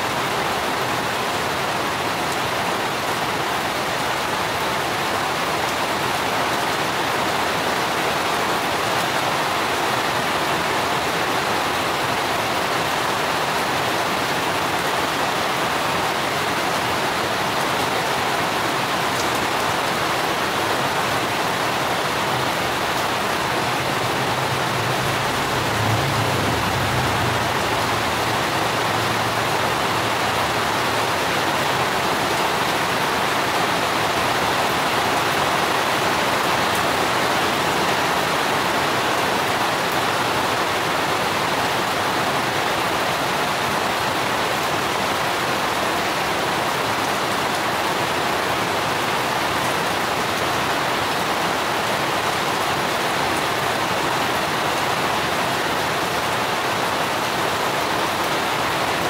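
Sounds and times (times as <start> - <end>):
steady rain on foliage: 0.0 - 59.0.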